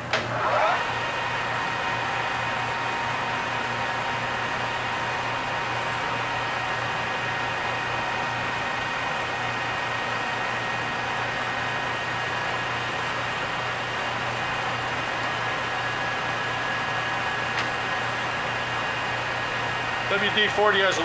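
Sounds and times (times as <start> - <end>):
lathe motor hum and gear whine: 0.0 - 21.0.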